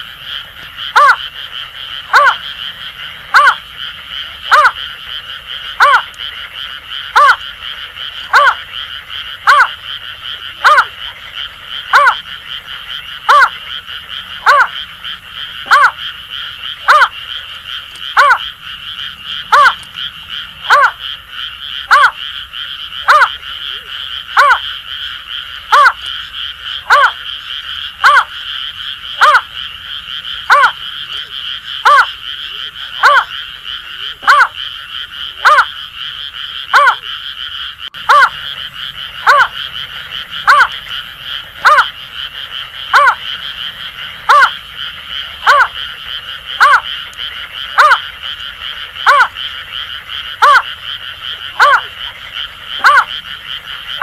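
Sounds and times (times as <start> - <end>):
buzzing frog chorus: 0.0 - 54.0.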